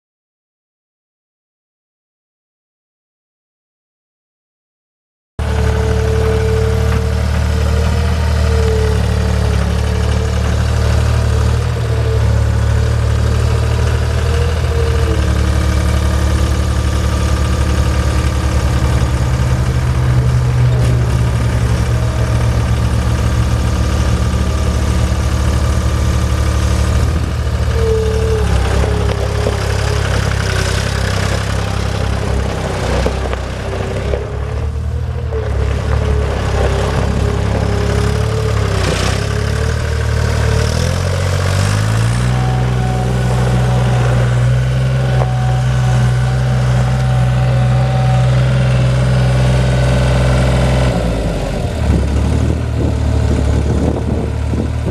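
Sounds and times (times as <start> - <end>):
diesel engine running: 5.4 - 54.9.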